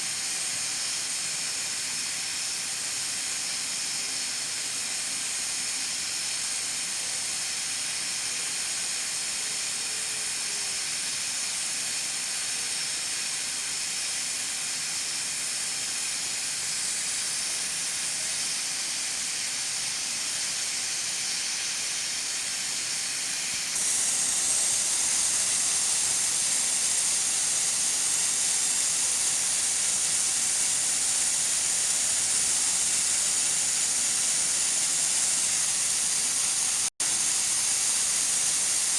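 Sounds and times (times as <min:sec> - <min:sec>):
pressure cooker hissing: 0:00.0 - 0:38.9.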